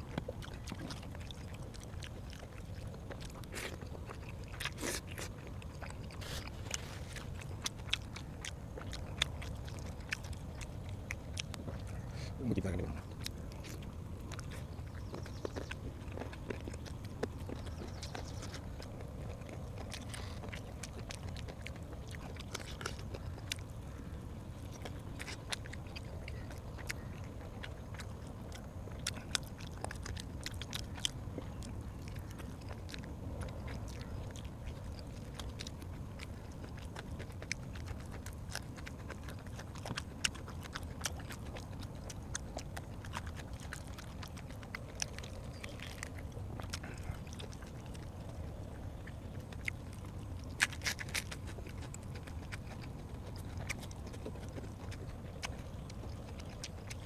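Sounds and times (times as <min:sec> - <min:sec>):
person chewing food: 0:00.0 - 0:57.0
sharp mouth clicks and smacks: 0:00.0 - 0:57.0
steady low hum: 0:00.0 - 0:57.0.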